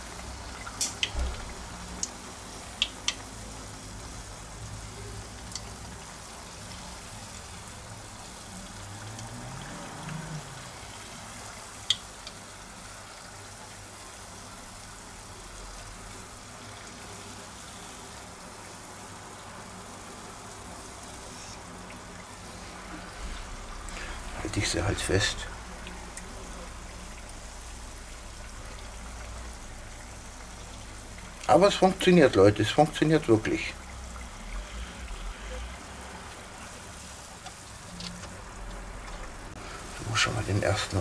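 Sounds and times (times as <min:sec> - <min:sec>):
deep-frying oil sizzling and bubbling: 0:00.0 - 0:41.0.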